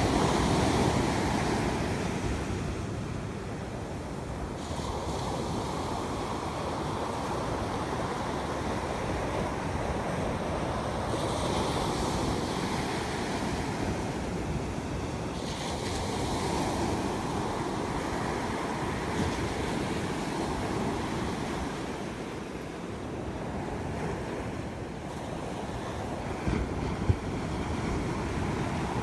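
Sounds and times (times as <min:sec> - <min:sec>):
ocean surf washing onto beach: 0:00.0 - 0:29.0
wind on microphone: 0:00.0 - 0:29.0.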